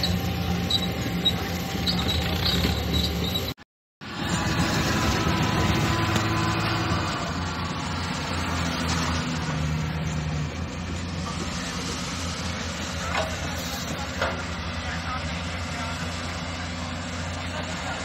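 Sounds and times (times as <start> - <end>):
heavy diesel engines running: 0.0 - 18.0.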